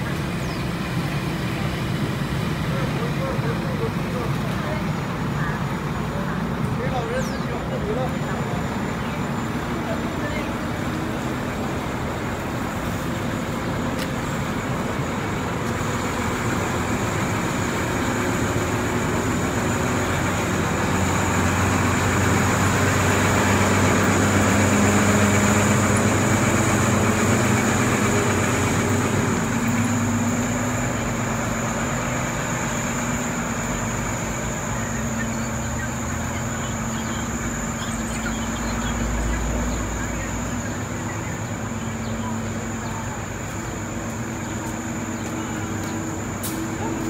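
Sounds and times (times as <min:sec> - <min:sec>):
road noise: 0:00.0 - 0:47.0
vehicle engine hum passing: 0:00.0 - 0:47.0.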